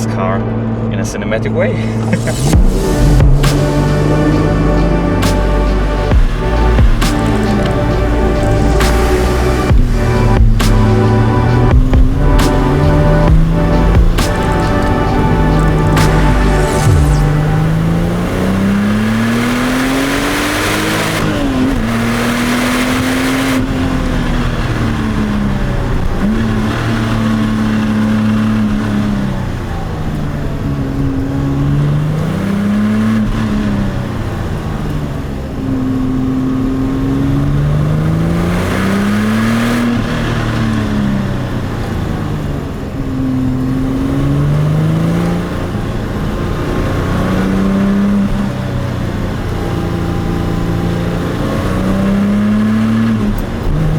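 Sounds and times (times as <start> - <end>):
car engine revving through gears: 0.0 - 53.9.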